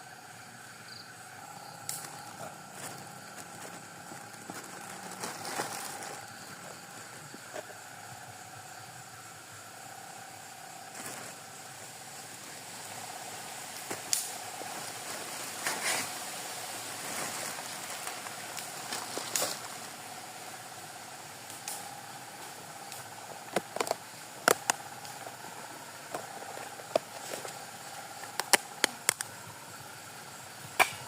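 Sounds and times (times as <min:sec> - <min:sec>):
night insects trilling: 0:00.0 - 0:31.0.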